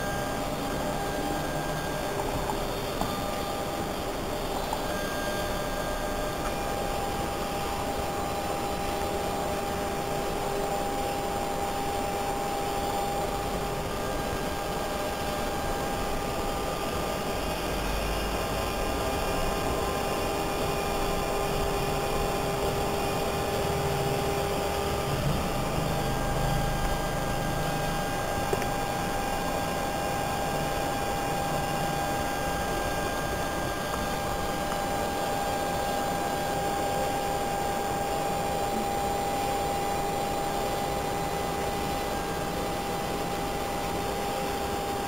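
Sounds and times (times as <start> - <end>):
electric motor whine: 0.0 - 45.0.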